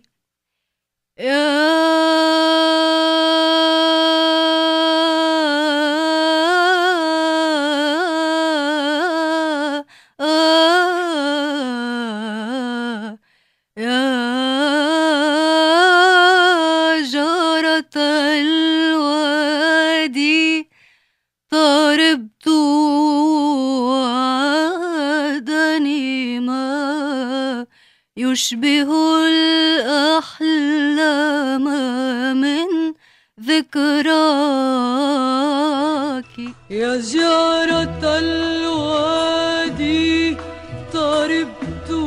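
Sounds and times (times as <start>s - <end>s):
woman singing unaccompanied: 1.2s - 13.2s, 13.8s - 20.7s, 21.5s - 42.0s.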